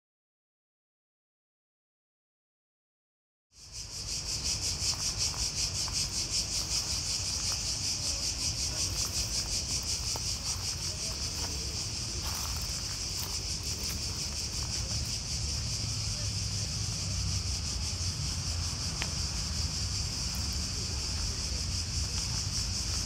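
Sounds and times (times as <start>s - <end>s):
cicadas buzzing in chorus: 3.6s - 23.0s.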